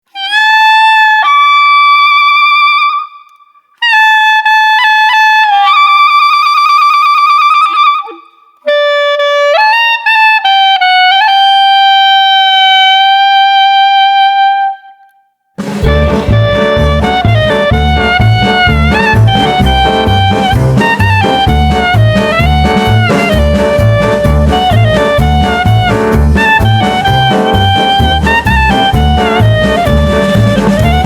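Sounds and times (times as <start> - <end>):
wind instrument comedy melody: 0.1 - 31.0.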